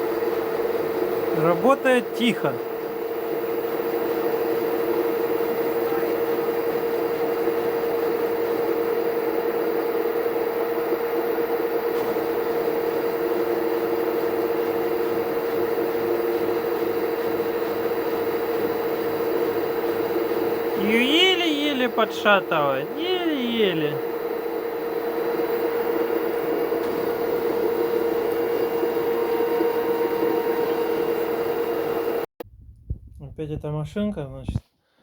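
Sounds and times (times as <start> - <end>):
washing machine running: 0.0 - 32.3.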